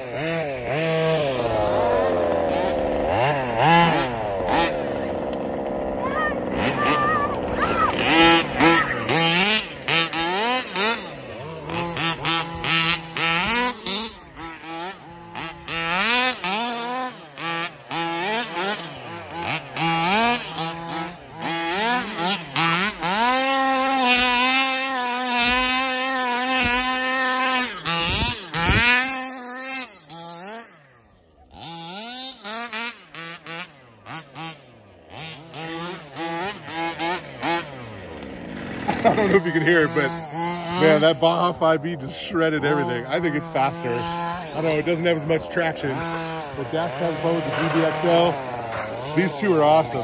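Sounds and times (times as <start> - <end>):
rc car engines revving: 0.0 - 50.0.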